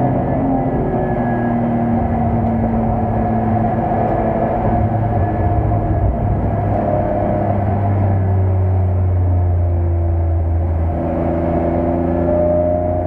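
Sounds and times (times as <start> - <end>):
car engine under load from cabin: 0.0 - 13.0.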